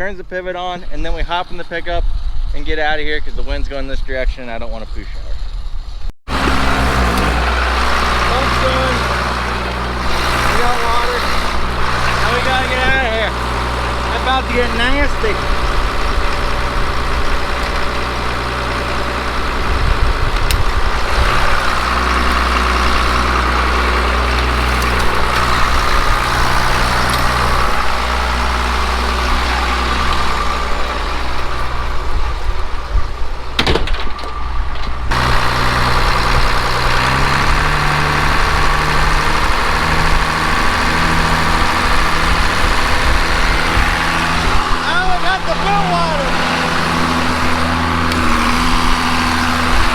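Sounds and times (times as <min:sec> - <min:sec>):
engine running: 0:06.2 - 0:49.9.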